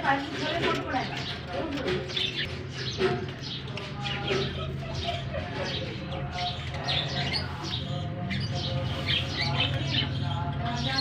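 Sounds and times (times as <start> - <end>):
flock of birds chirping: 0.0 - 11.0.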